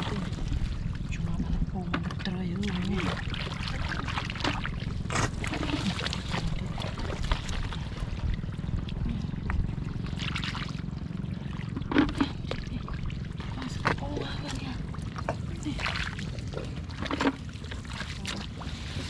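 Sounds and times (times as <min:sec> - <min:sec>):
steady low rumble: 0:00.0 - 0:19.0
water splashing and trickling: 0:00.0 - 0:19.0.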